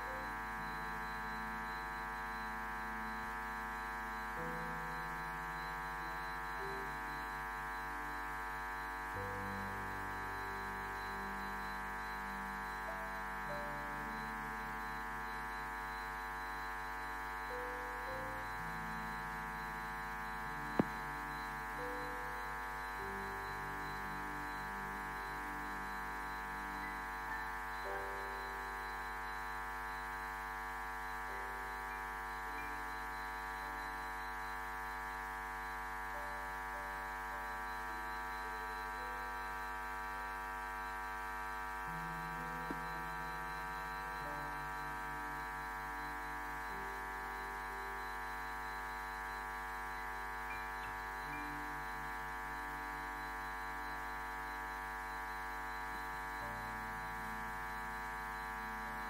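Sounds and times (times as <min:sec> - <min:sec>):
keyboard pad chords: 0:00.0 - 0:59.0
steady low hum: 0:00.0 - 0:59.0.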